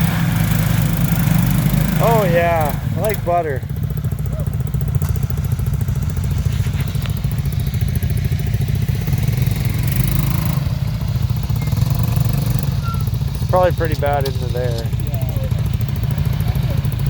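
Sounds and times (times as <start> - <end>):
atv engine drone: 0.0 - 17.0.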